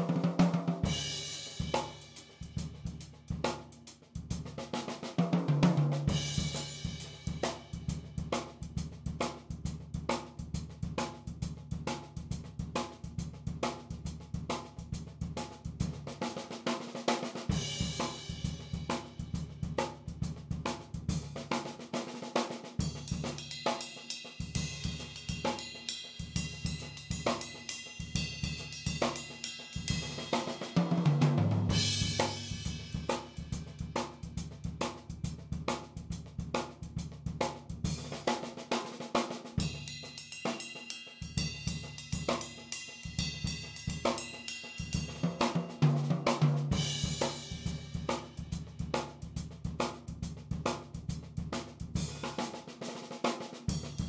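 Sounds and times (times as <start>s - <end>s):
drum kit beat: 0.0s - 54.0s
hi-hat and cymbals: 0.8s - 5.0s, 6.0s - 30.8s, 31.6s - 54.0s.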